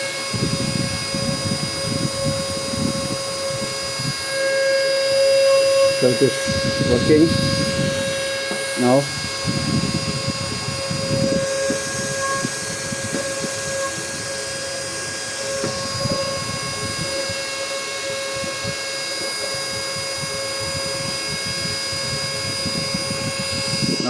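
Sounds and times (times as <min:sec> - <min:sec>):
vacuum motor whine: 0:00.0 - 0:24.0.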